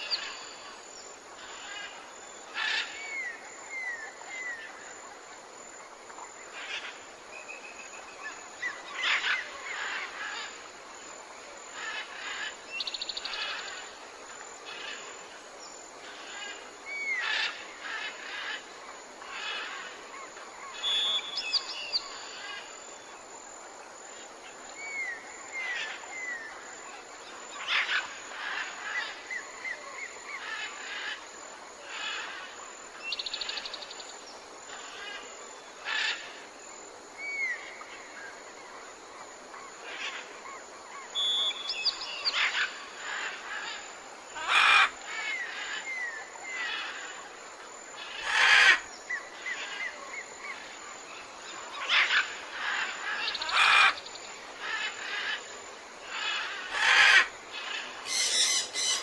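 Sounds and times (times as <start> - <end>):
background hiss: 0.0 - 59.0
wild birds chirping and trilling: 0.0 - 59.0.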